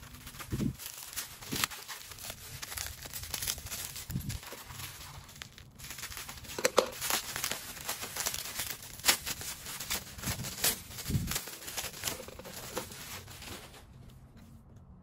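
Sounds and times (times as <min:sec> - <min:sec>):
bubble wrap crinkling and crackling: 0:00.0 - 0:14.3.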